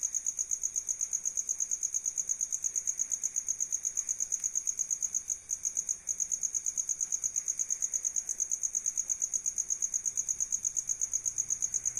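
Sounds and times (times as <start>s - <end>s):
cricket chirping: 0.0s - 11.9s.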